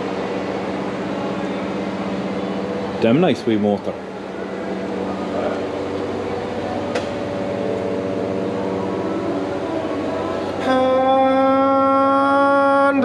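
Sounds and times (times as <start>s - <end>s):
motor humming and whining: 0.0s - 13.0s.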